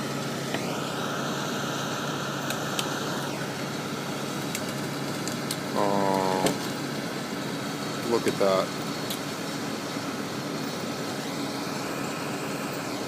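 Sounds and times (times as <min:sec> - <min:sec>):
crane engine running: 0:00.0 - 0:13.0
mechanical whine: 0:00.0 - 0:13.0.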